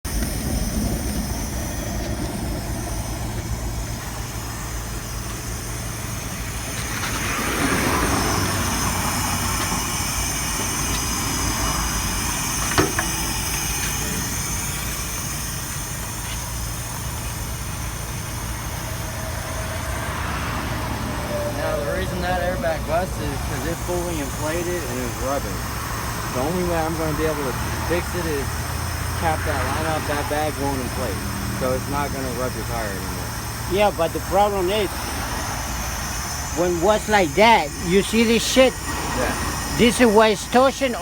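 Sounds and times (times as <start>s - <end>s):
vehicle engine idling: 0.0s - 41.0s
hissing noise: 0.1s - 41.0s.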